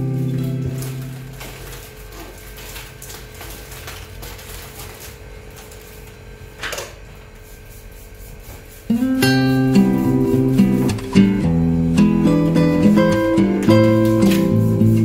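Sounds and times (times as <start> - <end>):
wrapping paper rustling: 0.0 - 6.6, 8.9 - 15.0.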